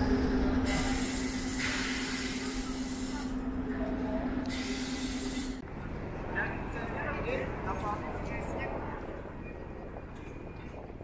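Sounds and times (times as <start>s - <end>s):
train humming in motion: 0.0s - 11.0s.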